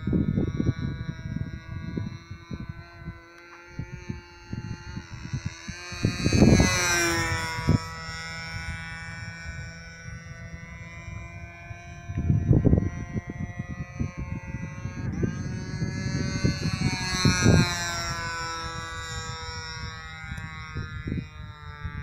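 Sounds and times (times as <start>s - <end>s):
model airplane motor and propeller: 0.0s - 22.0s
wind buffeting microphone: 0.0s - 22.0s.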